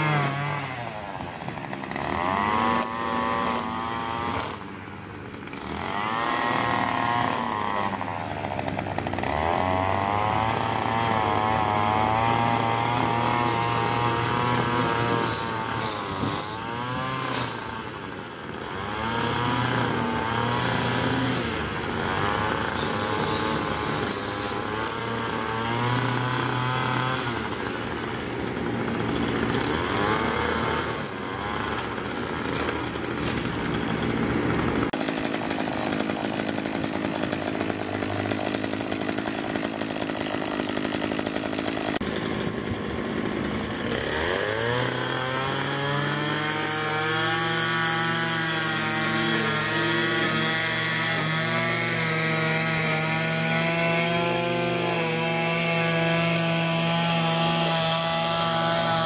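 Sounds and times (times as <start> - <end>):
string trimmer engine revving: 0.0 - 59.0.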